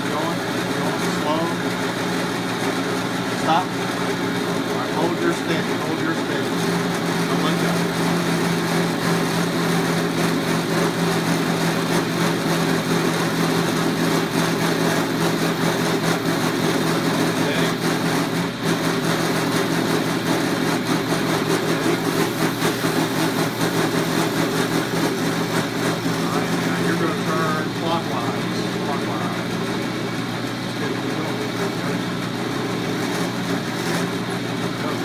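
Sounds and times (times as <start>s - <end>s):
milling machine cutting wood: 0.0s - 35.0s.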